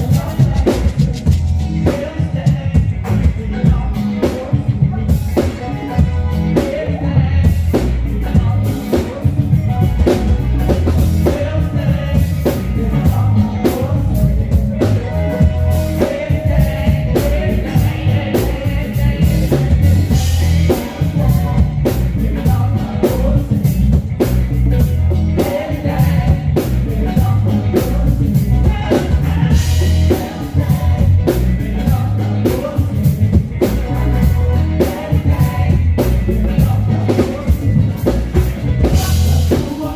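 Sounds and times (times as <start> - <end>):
bass guitar: 0.0 - 39.9
drum kit steady beat: 0.0 - 39.9
guitar: 0.0 - 39.9
person singing: 0.0 - 39.9.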